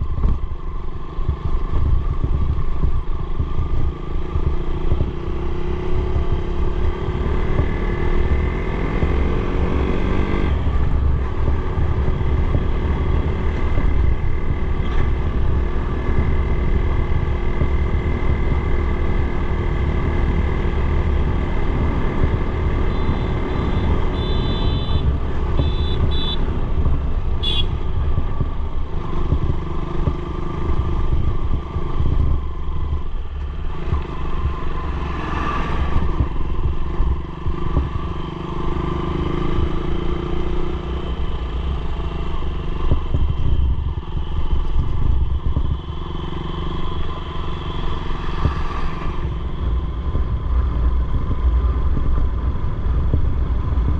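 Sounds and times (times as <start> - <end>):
motorcycle engine running: 0.0 - 53.9
wind rumble on microphone: 0.0 - 53.9.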